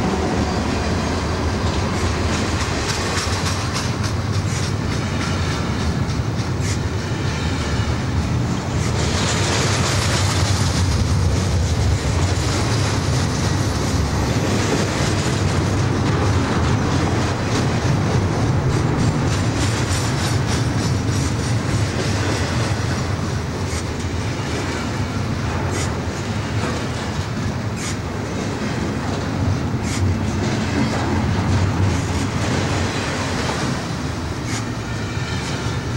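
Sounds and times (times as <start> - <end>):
freight train rolling past: 0.0 - 35.9.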